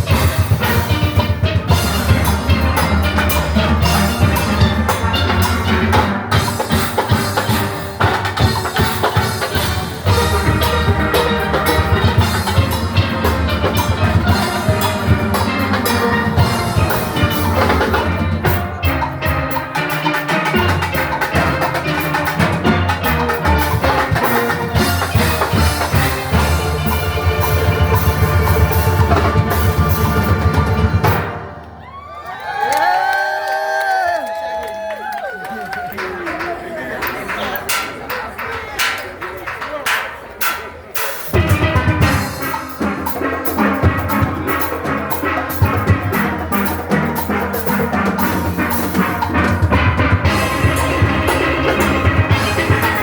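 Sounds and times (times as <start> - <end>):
drum kit: 0.0 - 32.0, 35.9 - 53.0
bass: 0.0 - 32.9, 41.3 - 53.0.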